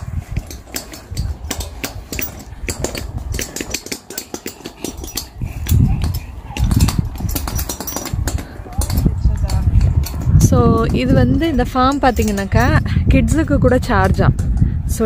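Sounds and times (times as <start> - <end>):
rattling clicks: 0.0 - 12.9
wheels rolling on rough path: 0.0 - 13.9.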